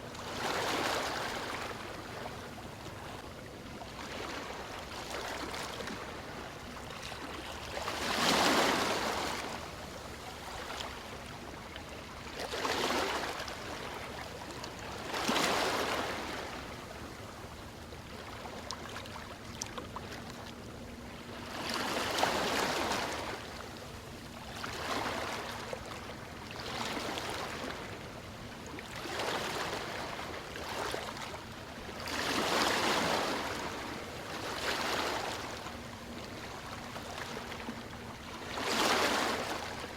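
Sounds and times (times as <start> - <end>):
ocean waves breaking on shore: 0.0 - 20.2, 21.1 - 39.9.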